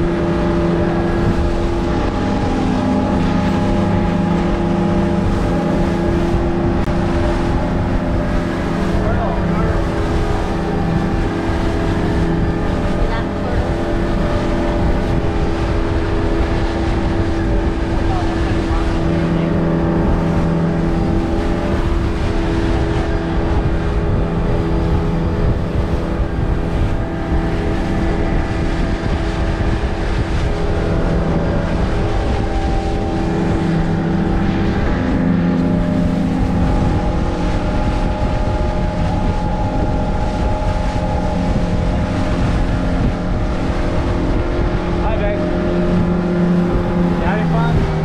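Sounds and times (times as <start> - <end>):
motorboat engine running: 0.0 - 48.0.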